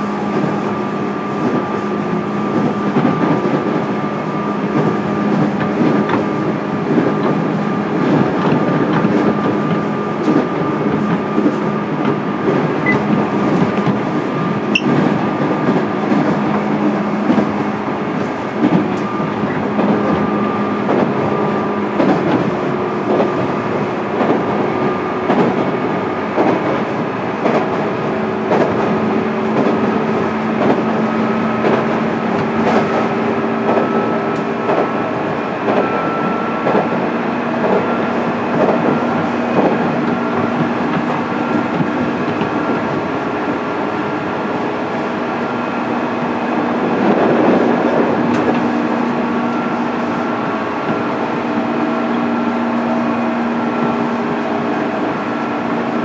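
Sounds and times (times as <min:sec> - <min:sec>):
electric train hum: 0:00.0 - 0:56.0
wheels clacking over rails: 0:00.0 - 0:56.0.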